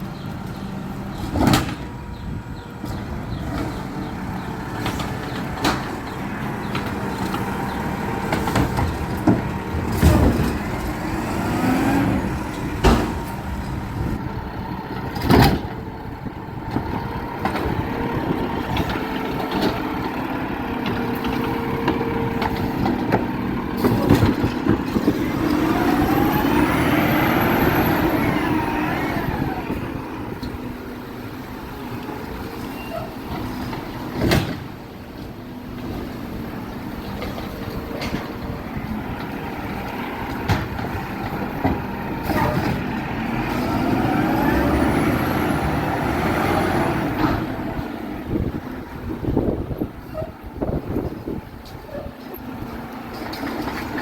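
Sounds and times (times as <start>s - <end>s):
garbage truck running: 0.0s - 54.0s.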